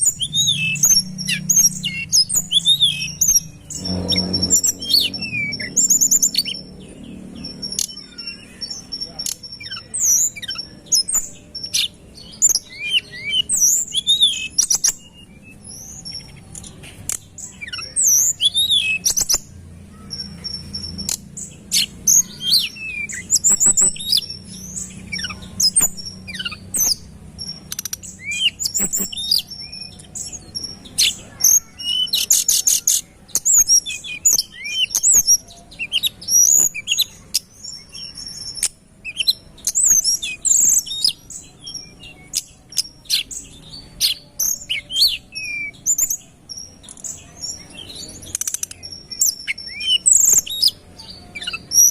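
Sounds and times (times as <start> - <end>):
bird singing whistles and trills: 0.0 - 16.7, 17.4 - 51.9.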